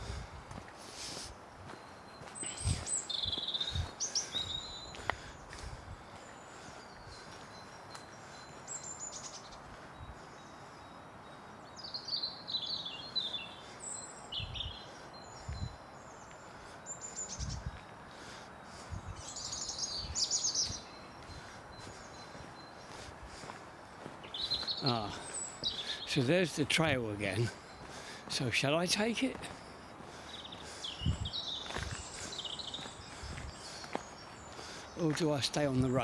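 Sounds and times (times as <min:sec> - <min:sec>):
background hiss: 0:00.0 - 0:36.0
birds chirping: 0:00.0 - 0:36.0.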